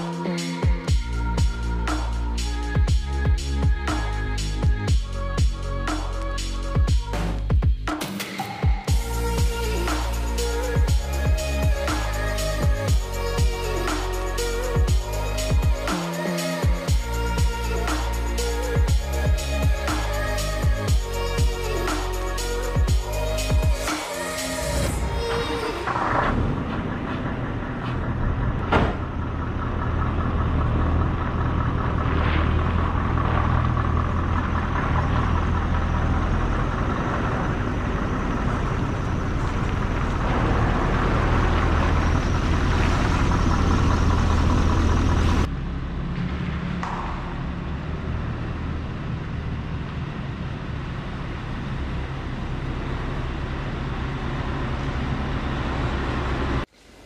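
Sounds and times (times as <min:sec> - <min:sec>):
quieter engine drone: 0:00.0 - 0:07.5, 0:08.4 - 0:57.0
lorry diesel engine running: 0:08.9 - 0:56.7.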